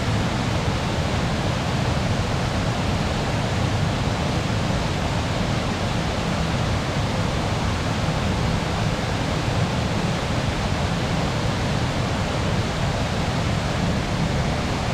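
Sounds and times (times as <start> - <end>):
waterfall rushing: 0.1 - 14.9.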